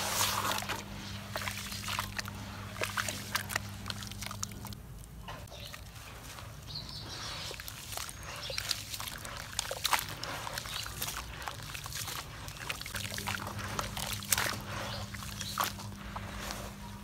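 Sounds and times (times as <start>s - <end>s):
slurry splashing: 0.0s - 4.8s, 5.7s - 17.0s
faint low hum: 0.0s - 17.0s
small crackles of soaking blocks: 0.0s - 17.0s.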